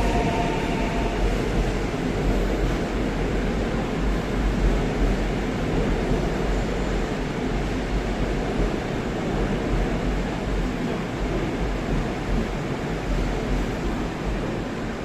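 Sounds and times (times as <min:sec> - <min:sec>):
subway train hum and rumble: 0:00.0 - 0:15.0.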